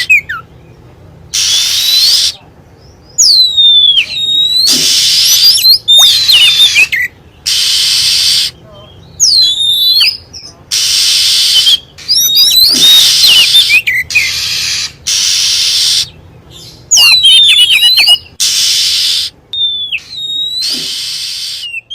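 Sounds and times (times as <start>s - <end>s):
bird whistled notes: 1.3s - 21.9s
harsh churr calls: 1.3s - 21.9s.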